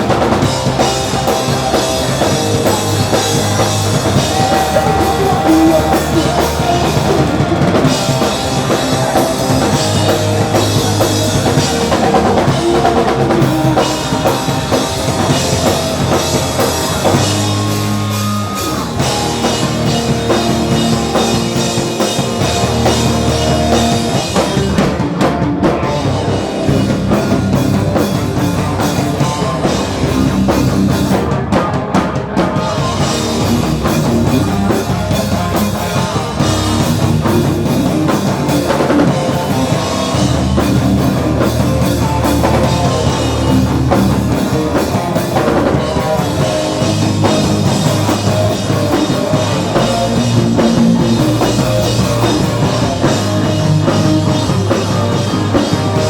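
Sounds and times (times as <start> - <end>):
electric guitars: 0.0 - 56.0
pounding drum kit: 0.0 - 56.0
punk rock band playing live: 0.0 - 56.0.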